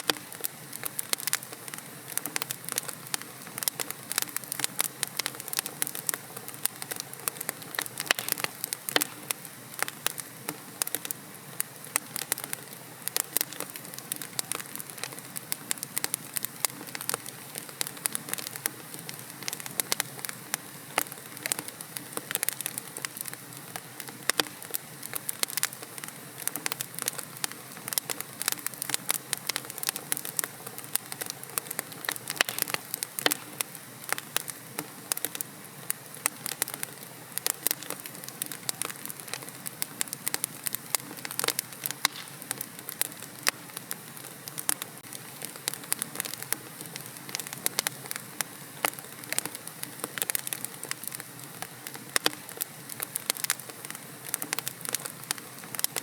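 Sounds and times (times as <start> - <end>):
burning logs hissing: 0.0 - 56.0
fire popping and snapping: 0.0 - 56.0.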